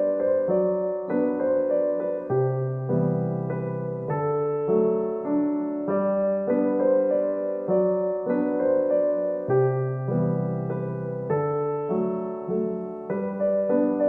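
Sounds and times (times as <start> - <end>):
soft electric piano melody: 0.0 - 14.0.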